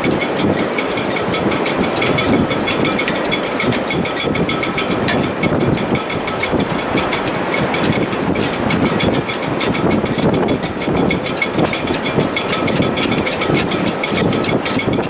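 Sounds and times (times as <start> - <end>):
rapid rattle of ticks: 0.0 - 15.0
wind rushing in rigging: 0.0 - 15.0.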